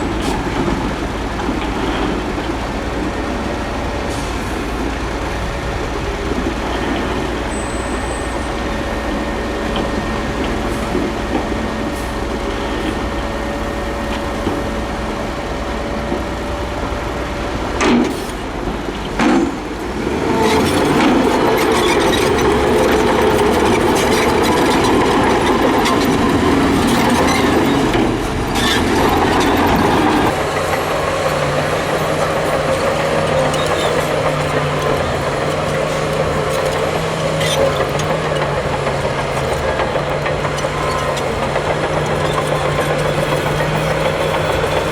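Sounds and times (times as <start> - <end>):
diesel machinery engine: 0.0 - 44.9.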